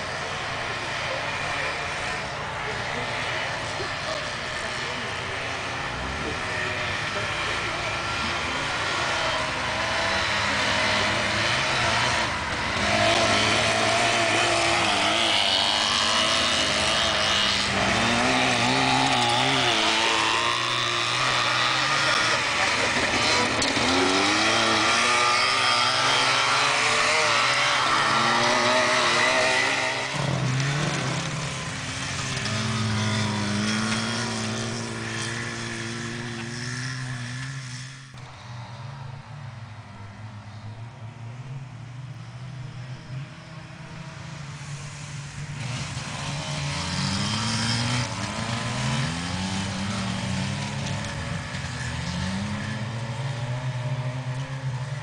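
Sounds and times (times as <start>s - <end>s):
two-stroke race car engines revving: 0.0s - 55.0s.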